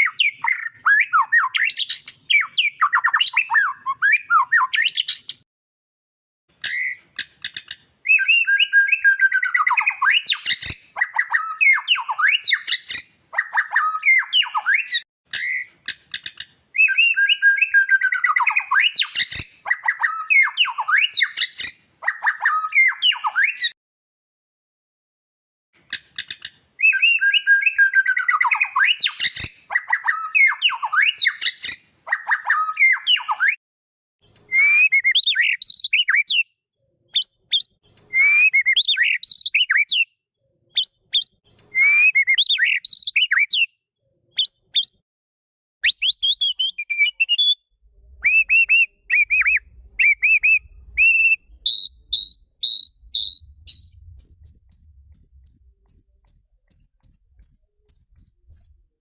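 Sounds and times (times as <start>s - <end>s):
bird singing whistles and chatters: 0.0s - 5.4s, 6.6s - 23.8s, 25.9s - 33.6s, 34.3s - 36.5s, 37.1s - 40.1s, 40.8s - 43.8s, 44.4s - 45.0s, 45.8s - 58.9s.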